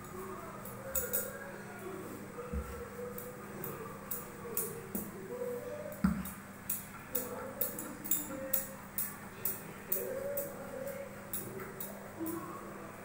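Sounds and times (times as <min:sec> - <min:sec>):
rolling pin rolling dough: 0:00.0 - 0:12.5.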